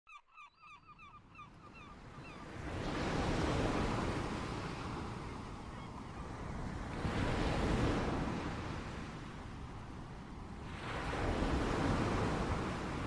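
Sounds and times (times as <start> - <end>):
ocean surf: 2.0 - 13.0.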